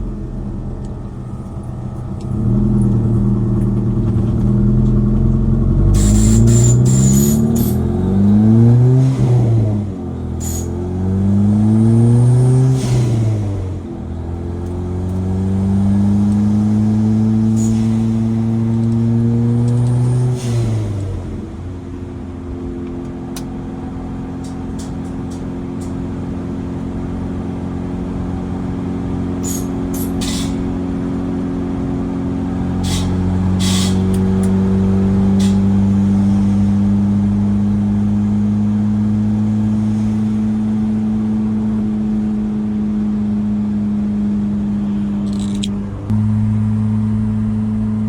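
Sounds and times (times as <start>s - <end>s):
pickup truck engine droning: 0.0s - 48.0s.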